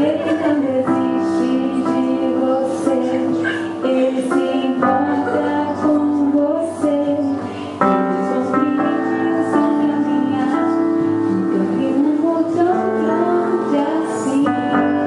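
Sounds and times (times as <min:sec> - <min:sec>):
slow music with held chords: 0:00.0 - 0:15.0.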